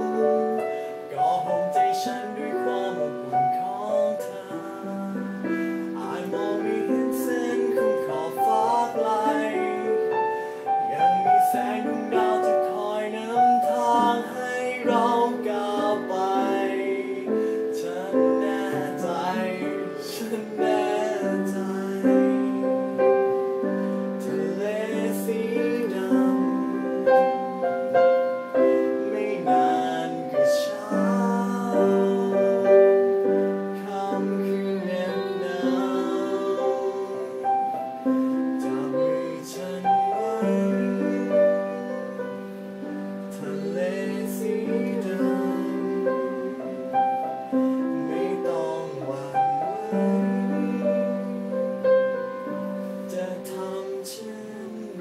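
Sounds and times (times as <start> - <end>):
man singing: 0.0 - 55.0
piano accompaniment: 0.0 - 55.0.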